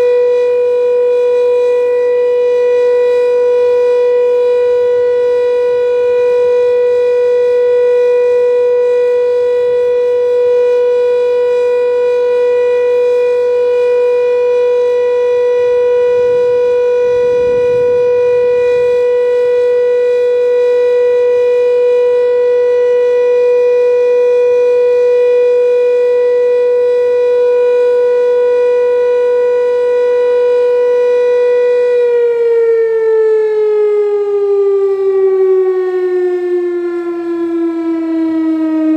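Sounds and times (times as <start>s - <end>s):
siren long steady tone: 0.0s - 38.9s.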